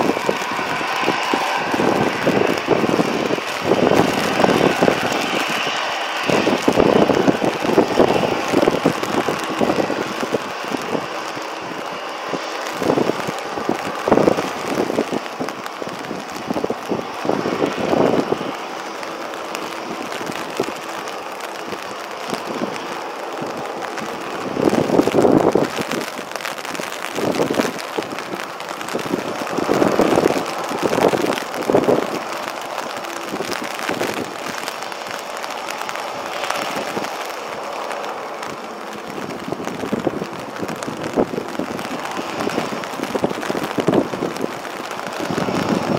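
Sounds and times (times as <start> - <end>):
rain hiss: 0.0 - 45.9
wind buffeting microphone: 0.0 - 45.9.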